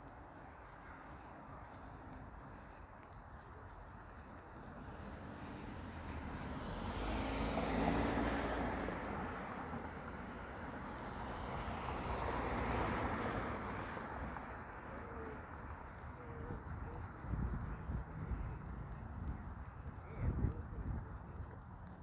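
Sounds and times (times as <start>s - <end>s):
road vehicles passing: 0.0s - 22.0s.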